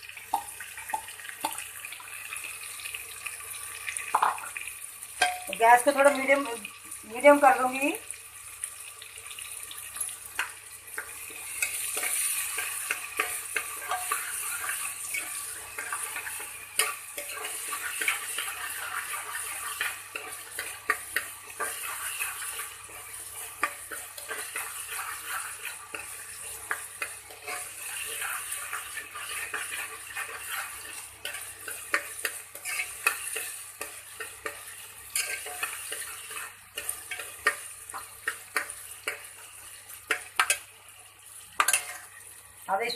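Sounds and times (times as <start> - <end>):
lentils sizzling in oil: 0.0 - 42.9
spoon scraping and tapping pan: 0.3 - 1.7, 4.1 - 4.6, 5.2 - 6.5, 9.9 - 40.8, 41.5 - 42.2.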